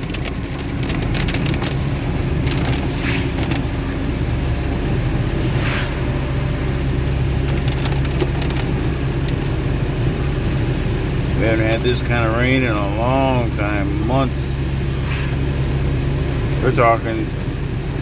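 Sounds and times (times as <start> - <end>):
heavy rain tapping on truck: 0.0 - 18.0
truck engine idling: 0.0 - 18.0.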